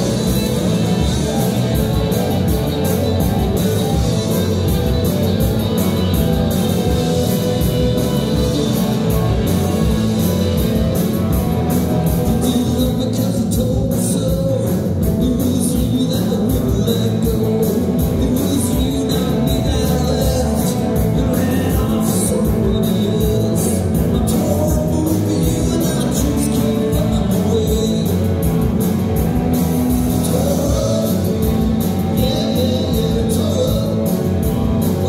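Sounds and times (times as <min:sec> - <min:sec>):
drums keeping a steady beat: 0:00.0 - 0:35.0
electric guitars: 0:00.0 - 0:35.0
rockabilly band playing: 0:00.0 - 0:35.0.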